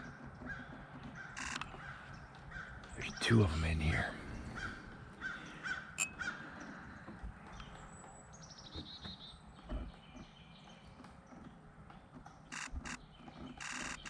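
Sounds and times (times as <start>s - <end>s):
birds calling harshly: 0.0s - 14.0s.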